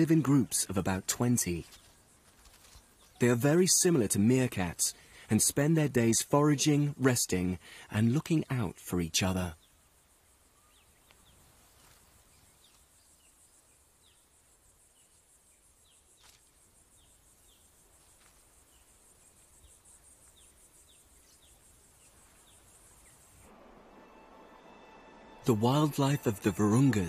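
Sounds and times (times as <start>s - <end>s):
low hiss: 0.0s - 27.0s.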